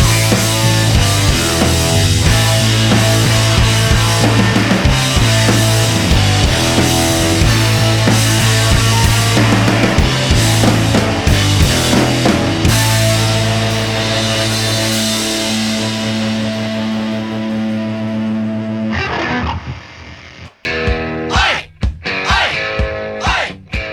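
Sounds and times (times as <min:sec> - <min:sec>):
distorted electric guitar: 0:00.0 - 0:23.9
drums: 0:00.0 - 0:23.9.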